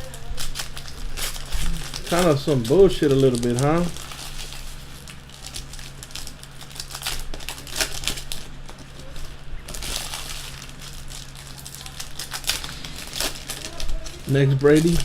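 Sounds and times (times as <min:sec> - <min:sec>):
foil wrappers crinkling: 0:00.0 - 0:15.0.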